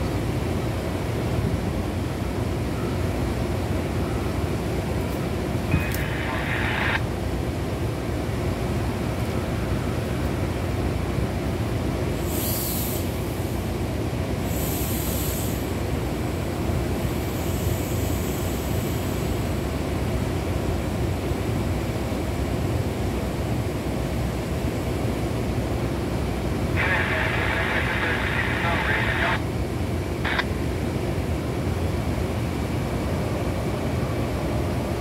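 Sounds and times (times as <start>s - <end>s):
diesel locomotive idling: 0.1s - 35.0s.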